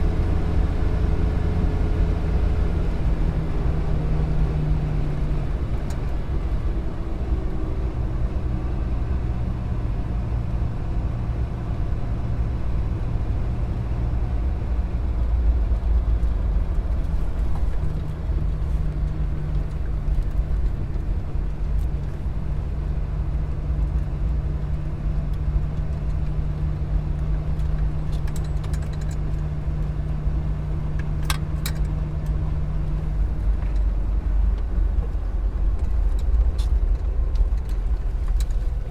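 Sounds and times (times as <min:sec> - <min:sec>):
car traffic rumble: 0:00.0 - 0:38.9.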